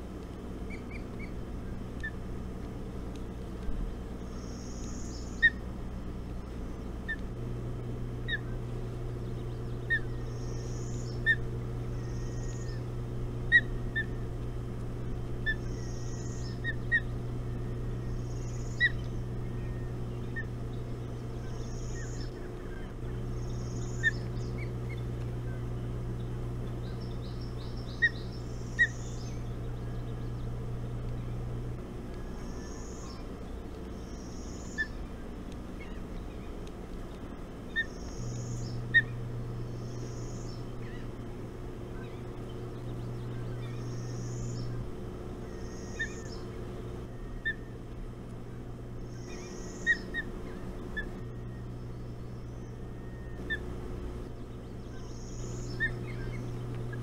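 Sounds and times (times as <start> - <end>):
steady low hum: 0.0 - 57.0
wild birds calling: 0.0 - 57.0.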